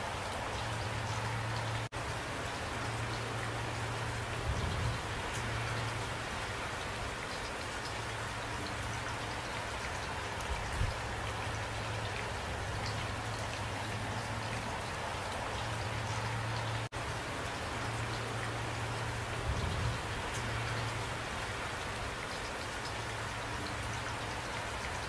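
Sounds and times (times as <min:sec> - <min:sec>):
rain drop ticks: 0:00.0 - 0:25.0
steady rain hiss: 0:00.0 - 0:25.0.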